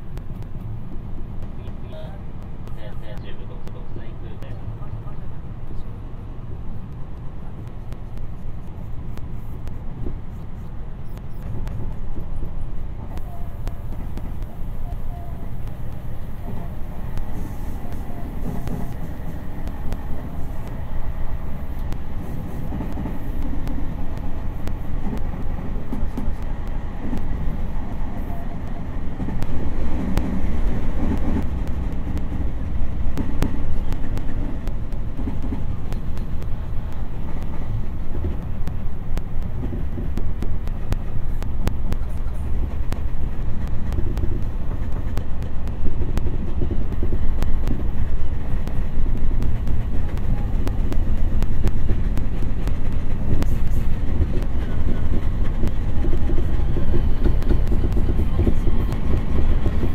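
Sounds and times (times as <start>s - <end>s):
oncoming train passing: 0.0s - 59.9s
train running rumble: 0.0s - 59.9s.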